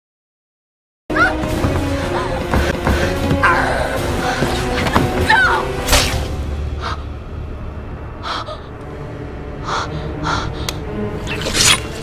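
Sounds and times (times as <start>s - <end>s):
dark orchestral film music: 1.1s - 12.0s.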